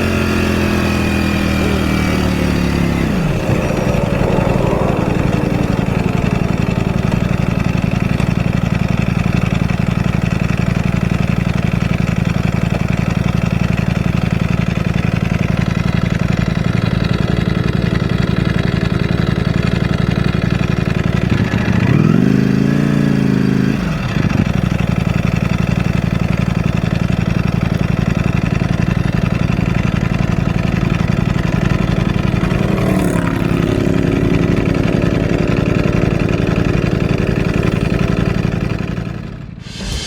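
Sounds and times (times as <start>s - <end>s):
motorcycle engine running: 0.0s - 39.6s.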